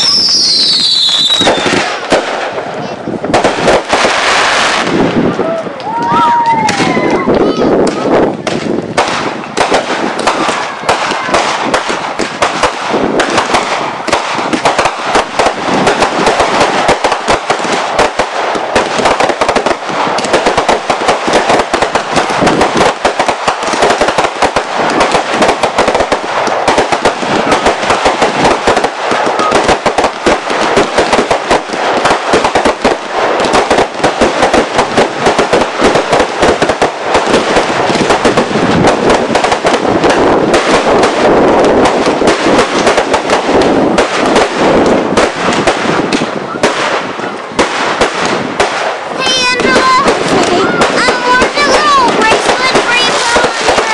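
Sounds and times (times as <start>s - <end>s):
fireworks cracking and popping: 0.0s - 53.9s.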